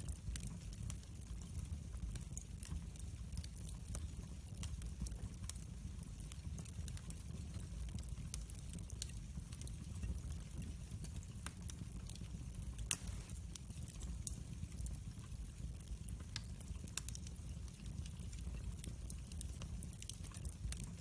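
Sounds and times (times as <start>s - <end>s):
campfire rumble: 0.0s - 21.0s
fire crackles: 0.0s - 21.0s.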